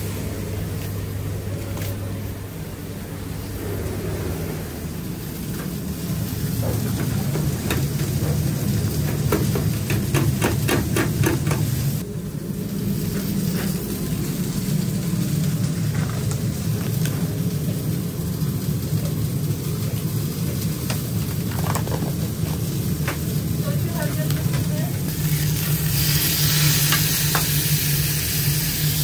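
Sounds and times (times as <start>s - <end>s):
kitchen machine hum: 0.0s - 29.0s.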